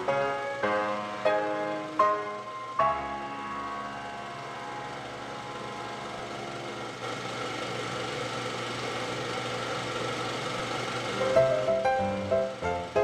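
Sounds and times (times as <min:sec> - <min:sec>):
mechanical whirring drone: 0:00.0 - 0:13.0.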